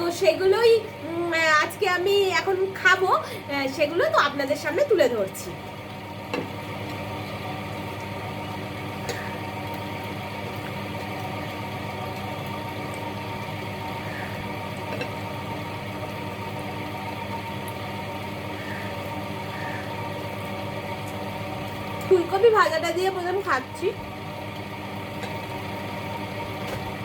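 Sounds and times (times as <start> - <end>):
mechanical hum with buzz: 0.0 - 27.0.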